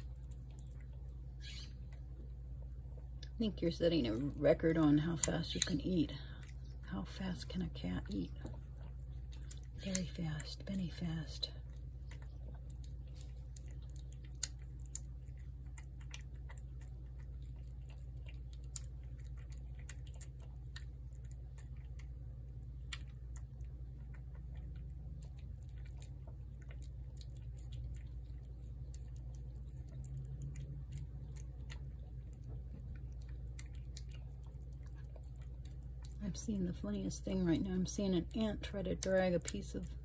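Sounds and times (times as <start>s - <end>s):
cat chewing food: 0.0s - 40.0s
steady low hum: 0.0s - 40.0s.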